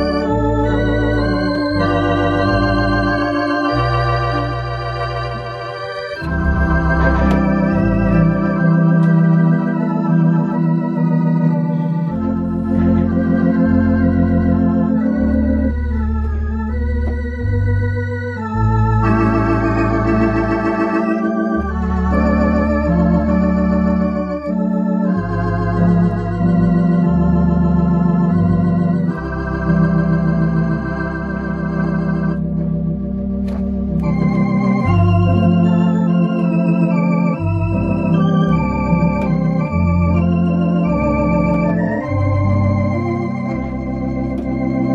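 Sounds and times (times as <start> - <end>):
electronic organ playing chords: 0.0 - 44.9.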